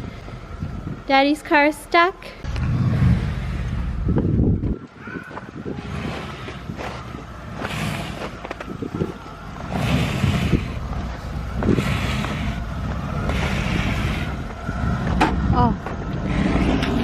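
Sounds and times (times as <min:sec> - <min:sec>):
car engine running: 0:02.4 - 0:17.0
tyres spinning in snow: 0:02.5 - 0:17.0.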